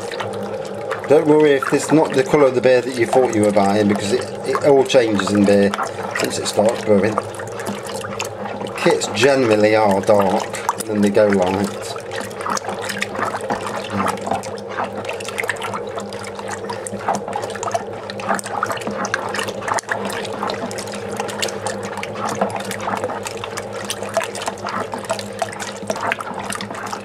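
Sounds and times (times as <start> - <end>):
liquid sloshing in a bucket: 0.0 - 27.0
steady low hum: 0.0 - 27.0.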